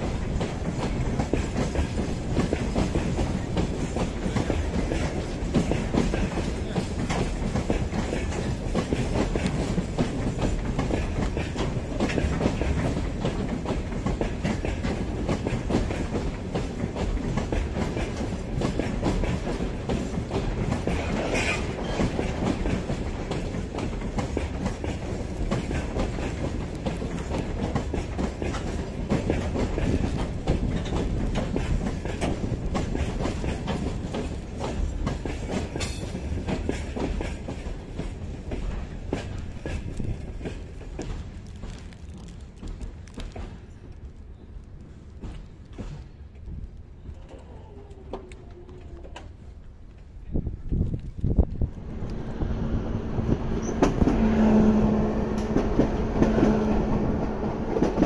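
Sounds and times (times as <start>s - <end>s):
train wheels clacking on rail joints: 0.0s - 58.0s.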